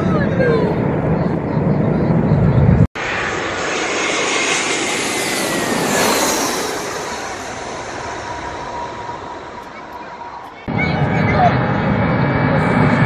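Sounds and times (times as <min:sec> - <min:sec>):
jet engines passing overhead: 0:00.0 - 0:13.0.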